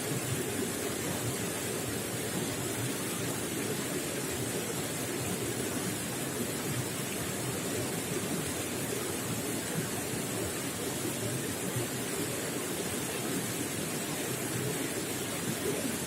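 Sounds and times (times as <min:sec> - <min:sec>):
running water gurgling: 0:00.0 - 0:16.0.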